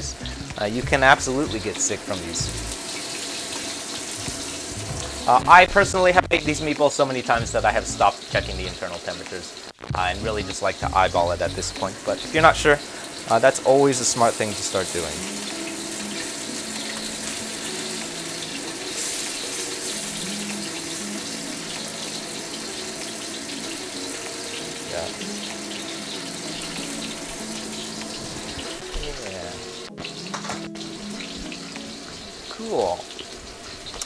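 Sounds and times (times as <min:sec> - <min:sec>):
meatballs sizzling in oil: 0:00.0 - 0:34.0
soft lo-fi music: 0:00.0 - 0:34.0.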